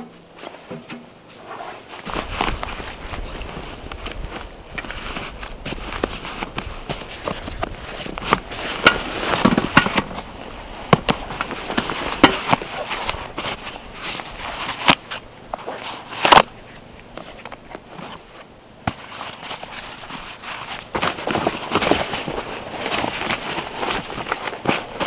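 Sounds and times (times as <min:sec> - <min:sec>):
foam rustling: 0:00.3 - 0:25.0
dry pine needles crackling underfoot: 0:01.8 - 0:25.0.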